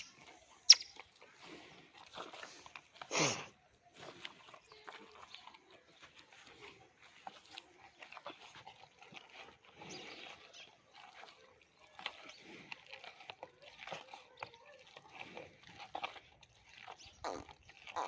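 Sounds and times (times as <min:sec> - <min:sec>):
buffalo munching fodder: 0:00.0 - 0:18.0.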